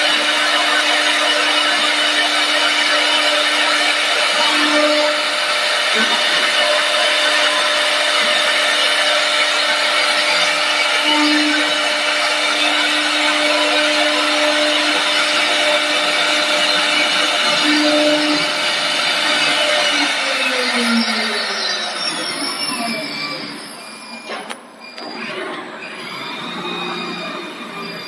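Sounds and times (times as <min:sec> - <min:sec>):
cutter hissing on spinning wood: 0:00.0 - 0:23.5
lathe motor hum: 0:00.0 - 0:23.8.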